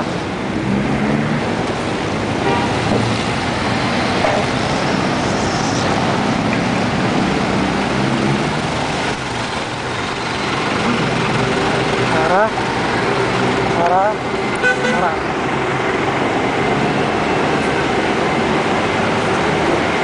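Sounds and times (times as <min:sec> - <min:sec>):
road traffic wash: 0:00.0 - 0:20.0
vehicle engines running close by: 0:00.0 - 0:20.0.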